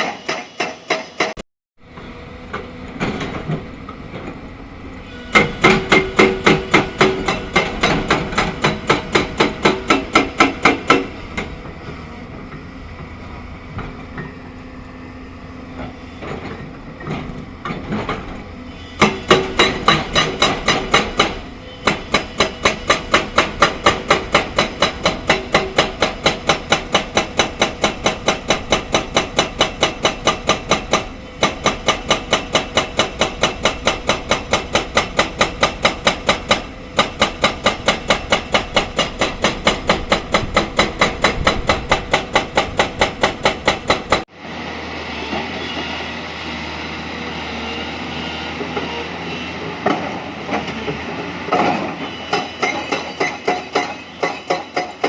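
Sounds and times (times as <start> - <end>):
hydraulic rock breaker hammering: 0.0 - 14.6, 15.7 - 44.3, 49.8 - 55.0
engine drone: 1.8 - 52.6.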